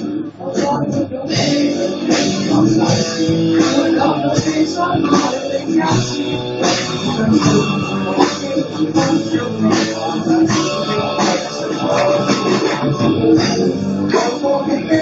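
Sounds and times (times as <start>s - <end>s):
rock band music: 0.0s - 15.0s.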